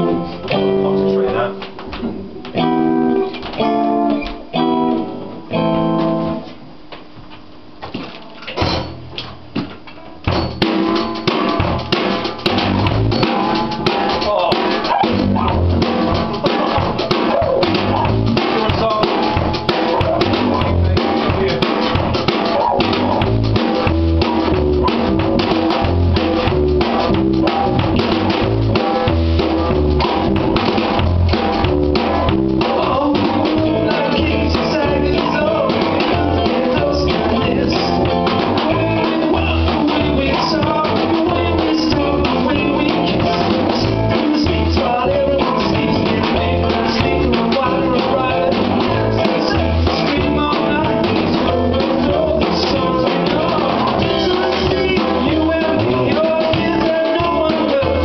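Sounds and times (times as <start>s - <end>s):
rock band playing: 0.0s - 6.6s, 8.4s - 9.2s, 10.0s - 58.0s
electric guitar chords: 0.0s - 6.7s, 10.0s - 58.0s
drum kit and bass: 0.0s - 58.0s.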